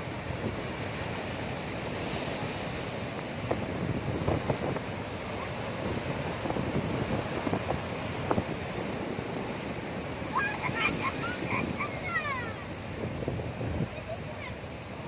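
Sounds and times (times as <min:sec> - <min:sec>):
sea waves washing: 0:00.0 - 0:15.0
wind rumbling on microphone: 0:00.0 - 0:15.0.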